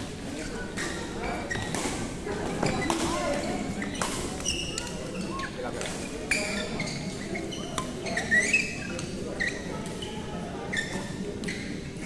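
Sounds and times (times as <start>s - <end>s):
sneakers squeaking on court floor: 0.4s - 12.0s.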